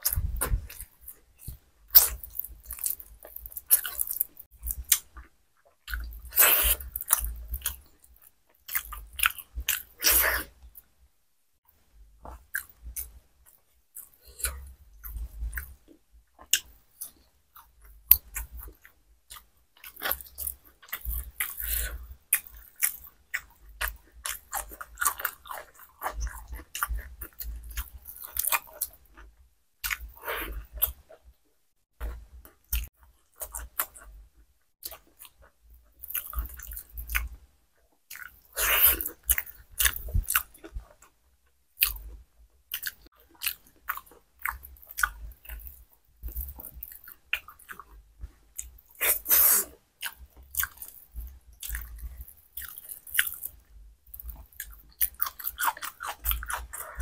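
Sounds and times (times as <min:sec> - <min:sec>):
person chewing and lip-smacking: 0:00.0 - 0:10.5, 0:12.3 - 0:31.2, 0:32.0 - 0:34.2, 0:34.8 - 0:37.4, 0:38.1 - 0:41.2, 0:41.8 - 0:57.0.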